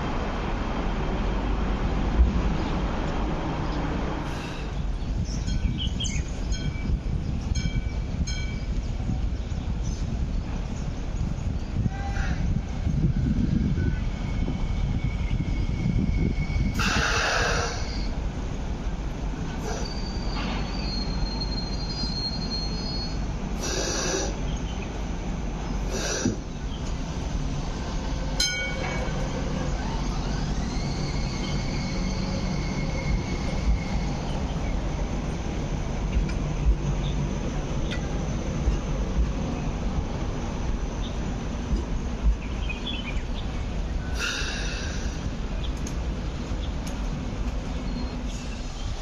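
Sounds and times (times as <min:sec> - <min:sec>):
train low rumble: 0:00.0 - 0:49.0
light rail motor whine: 0:04.2 - 0:49.0.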